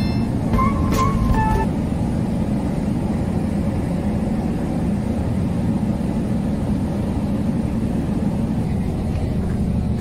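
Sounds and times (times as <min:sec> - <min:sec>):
ship diesel engine rumbling: 0:00.0 - 0:10.0.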